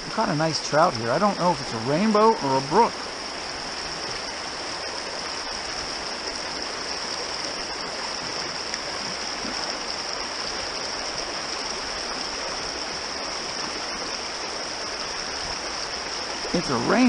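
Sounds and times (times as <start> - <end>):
stream running over stones: 0.0 - 17.0.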